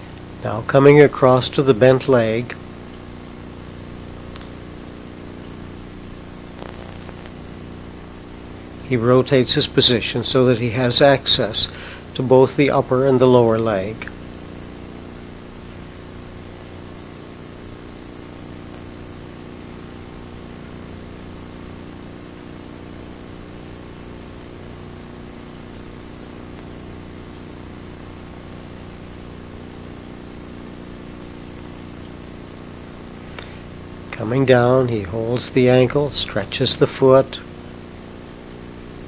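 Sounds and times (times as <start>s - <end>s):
faint hiss: 0.0s - 39.0s
steady low hum: 0.0s - 39.0s.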